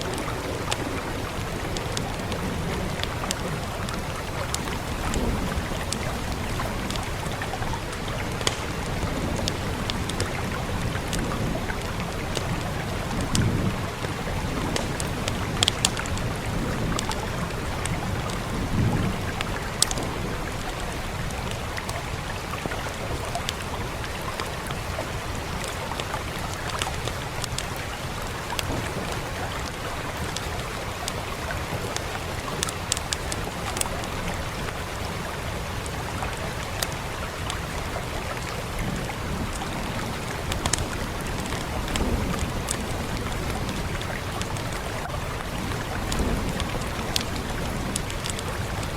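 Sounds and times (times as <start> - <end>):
rain hiss: 0.0 - 48.9
wood fire popping and crackling: 0.0 - 48.9.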